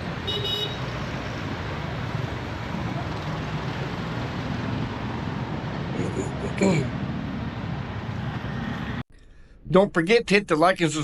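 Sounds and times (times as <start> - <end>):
road traffic passing: 0.0 - 9.1.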